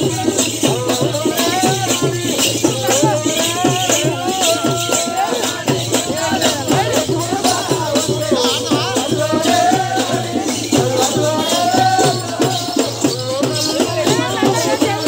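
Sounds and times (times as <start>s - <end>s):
drum beating steadily: 0.0s - 15.0s
folk devotional music: 0.0s - 15.0s
rattling percussion: 0.0s - 15.0s
voices singing: 0.0s - 15.0s.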